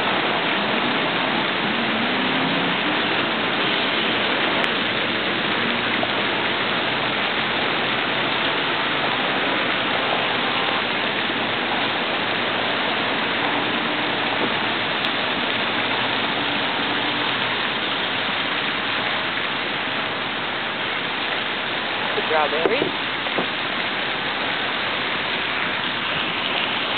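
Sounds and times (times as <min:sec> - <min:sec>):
fountain water rushing: 0:00.0 - 0:26.9.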